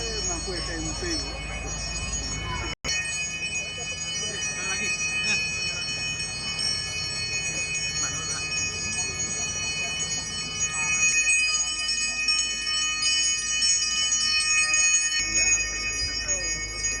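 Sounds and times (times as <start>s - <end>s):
hand bell ringing: 0.0s - 17.0s.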